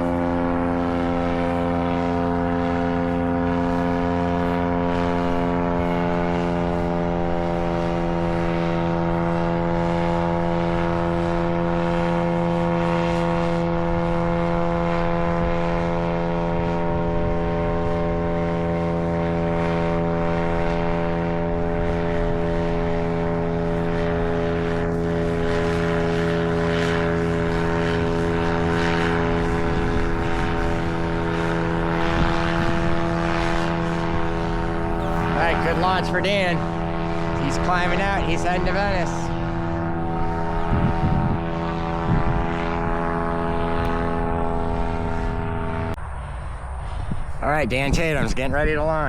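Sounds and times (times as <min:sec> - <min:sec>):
paramotor engine and propeller: 0:00.0 - 0:49.0.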